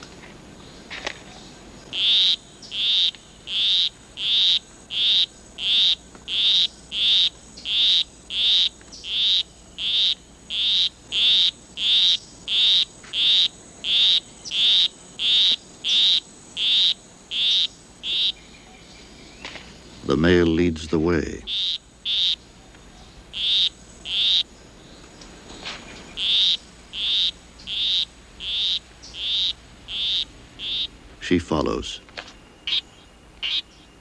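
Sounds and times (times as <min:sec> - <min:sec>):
frog chirping: 0:01.3 - 0:25.3, 0:25.9 - 0:34.0.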